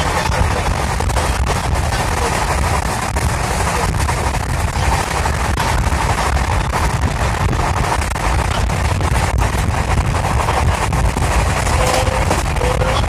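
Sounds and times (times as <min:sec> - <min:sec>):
train wheels rumbling on track: 0:00.0 - 0:13.0
wind rushing past train: 0:00.0 - 0:13.0.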